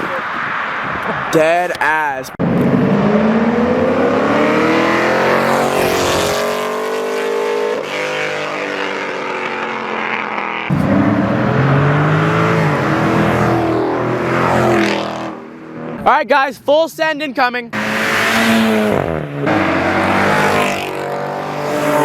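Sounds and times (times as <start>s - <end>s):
car engines revving: 0.0s - 16.1s, 17.7s - 22.0s
engine running at high revs: 2.4s - 16.0s, 17.8s - 22.0s.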